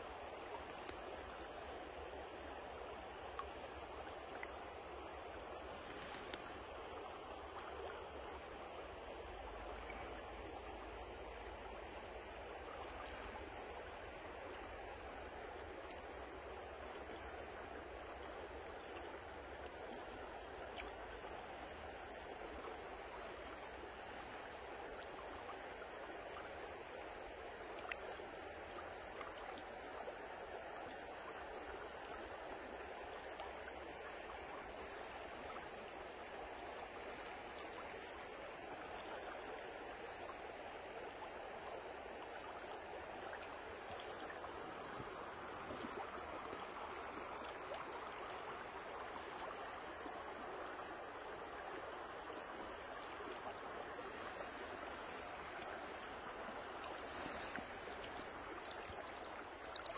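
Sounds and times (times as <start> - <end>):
river water running over stones: 0.0 - 59.9.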